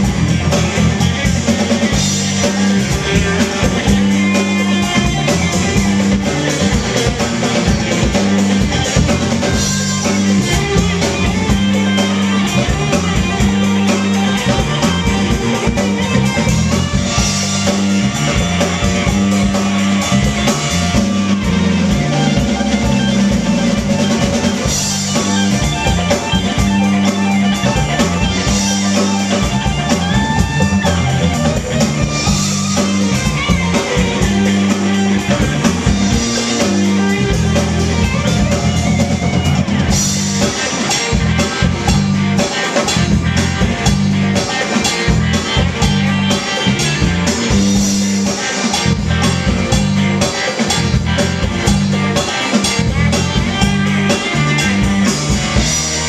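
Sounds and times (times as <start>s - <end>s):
drum kit steady beat: 0.0s - 56.0s
electric guitar: 0.0s - 56.0s
repeating low groove: 0.0s - 56.0s.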